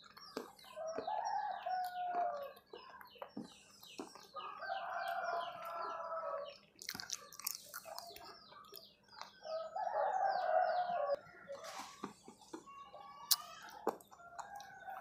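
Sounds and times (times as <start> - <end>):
chickens calling: 0.0 - 15.0
small birds chirping: 0.0 - 15.0.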